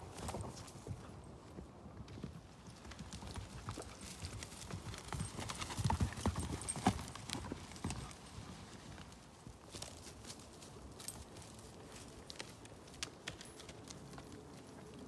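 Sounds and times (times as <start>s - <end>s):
horse hooves on grassy ground: 0.0s - 15.0s.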